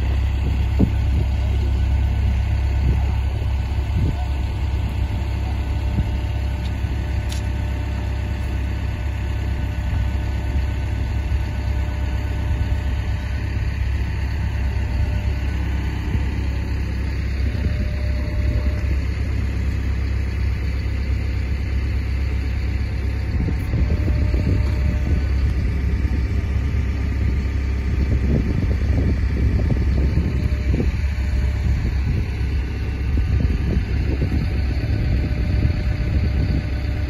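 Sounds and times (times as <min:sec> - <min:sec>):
engine idling with low rumble: 0:00.0 - 0:37.0.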